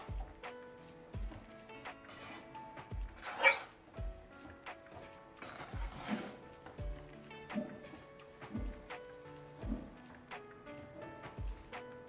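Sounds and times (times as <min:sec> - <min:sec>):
background music with low beat: 0:00.0 - 0:12.0.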